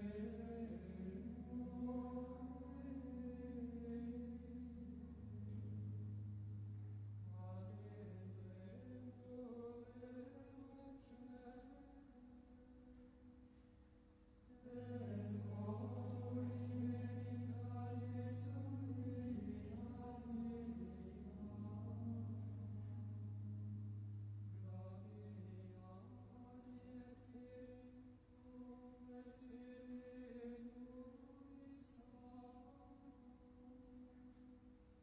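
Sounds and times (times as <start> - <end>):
person singing a chant: 0.0 - 13.0, 14.5 - 34.6.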